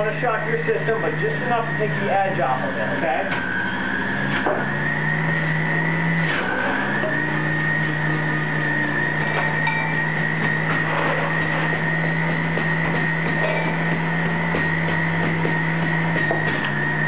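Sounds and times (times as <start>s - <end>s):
electric juicer motor whine: 0.0s - 17.0s.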